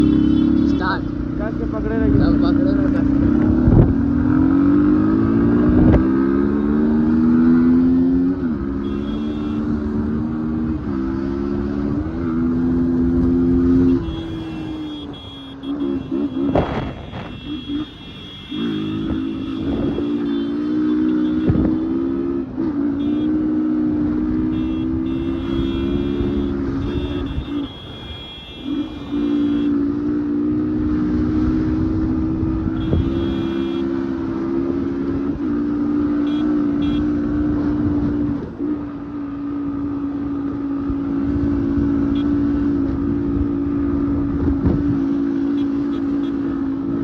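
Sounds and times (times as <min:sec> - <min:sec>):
motorcycle engine revving high: 0:00.0 - 0:47.0.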